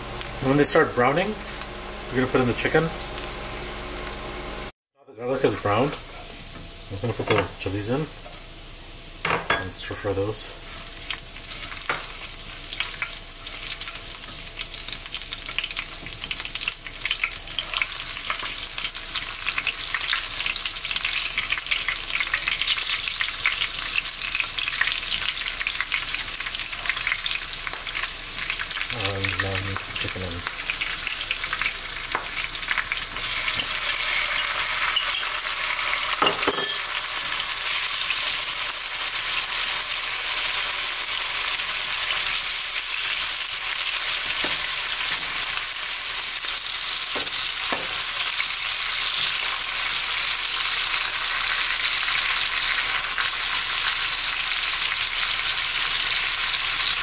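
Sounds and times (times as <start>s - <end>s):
sizzling in hot oil: 5.4s - 57.0s.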